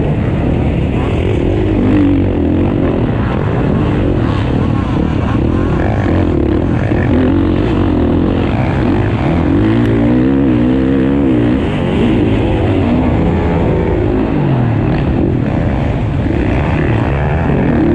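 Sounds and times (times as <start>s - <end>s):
motocross engines revving: 0.0s - 17.9s.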